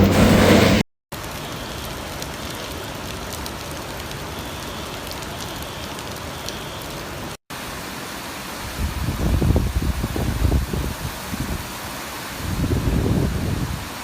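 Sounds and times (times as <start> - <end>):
heavy rain hissing: 0.0 - 14.0
rain patter: 1.1 - 14.0.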